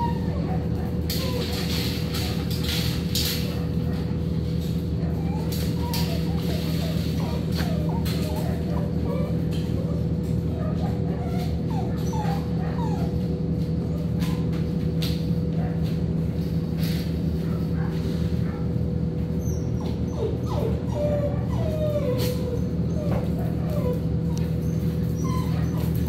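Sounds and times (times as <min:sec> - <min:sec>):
dogs whimpering and yipping: 0:00.0 - 0:15.8, 0:17.4 - 0:26.0
steady low hum: 0:00.0 - 0:26.0.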